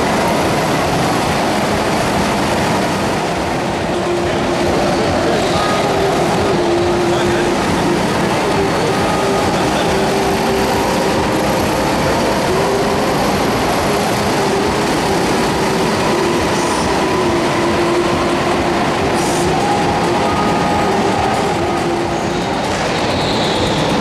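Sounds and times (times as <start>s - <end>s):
go-kart engines echoing: 0.0s - 24.0s.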